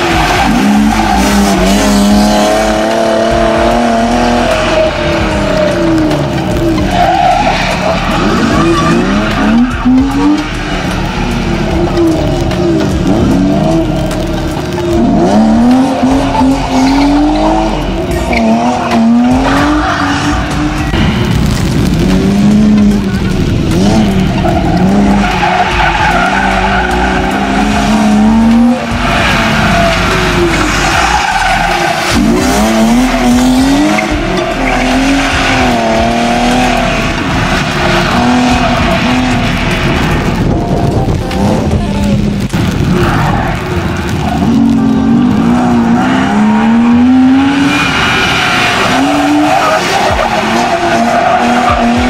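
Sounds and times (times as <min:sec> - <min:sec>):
car engine revving: 0:00.0 - 0:52.0
tyres squealing on wet tarmac: 0:00.0 - 0:52.0.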